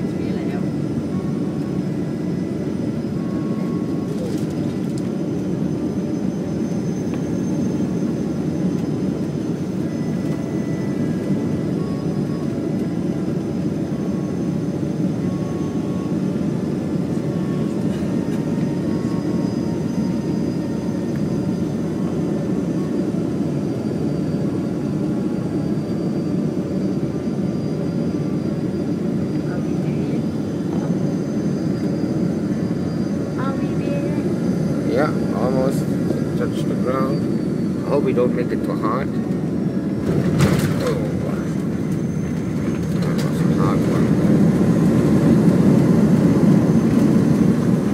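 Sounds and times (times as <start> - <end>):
airplane cabin noise: 0.0 - 47.9.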